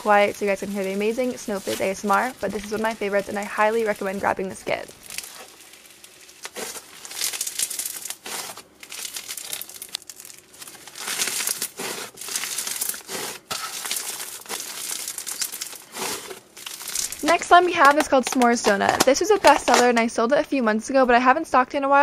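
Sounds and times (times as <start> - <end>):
slime crunchy crackling: 0.0 - 19.8.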